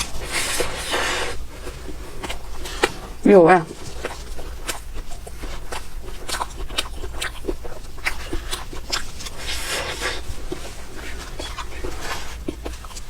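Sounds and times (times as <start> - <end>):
wet mouth clicks and chewing: 0.0 - 13.0.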